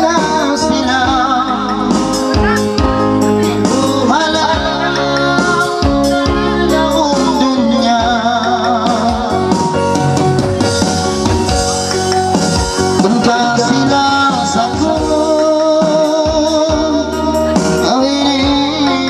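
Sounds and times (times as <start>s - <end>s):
man singing into a microphone: 0.0s - 10.0s, 12.8s - 19.0s
electronic keyboard with drum rhythm: 0.0s - 19.0s.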